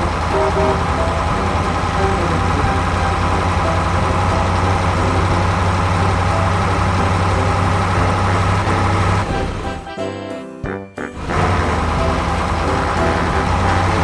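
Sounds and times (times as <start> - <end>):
toy truck engine humming: 0.0 - 9.8, 11.2 - 14.0.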